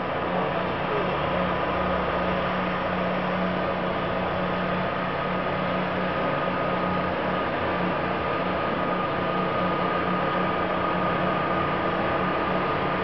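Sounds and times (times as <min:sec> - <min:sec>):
truck mechanical hum and whine: 0:00.0 - 0:13.0.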